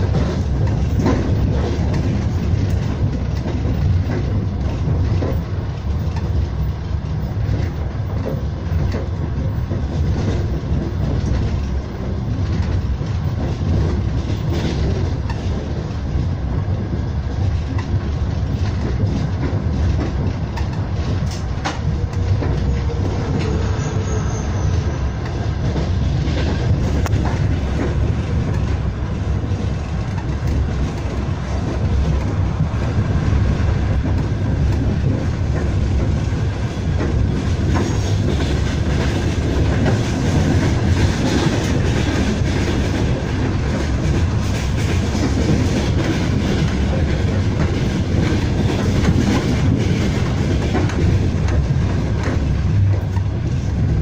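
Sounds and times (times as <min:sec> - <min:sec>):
freight train passing: 0:00.0 - 0:54.0
train wheels rumbling on rails: 0:00.0 - 0:54.0.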